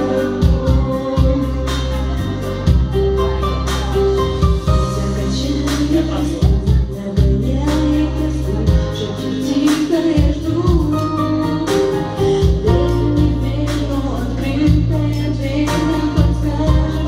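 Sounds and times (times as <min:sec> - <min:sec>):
electronic keyboard with bass and beat: 0:00.0 - 0:17.0
woman singing into a microphone: 0:00.0 - 0:17.0.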